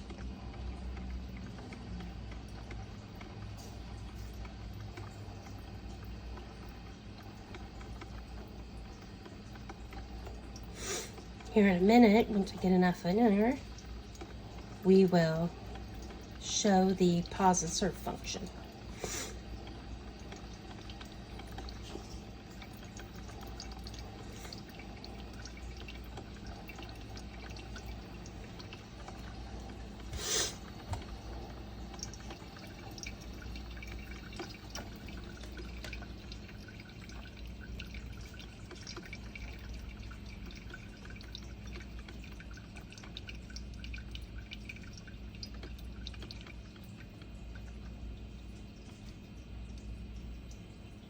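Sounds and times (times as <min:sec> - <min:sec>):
coffee dripping into carafe: 0:00.0 - 0:51.0
coffee maker humming: 0:00.0 - 0:51.0.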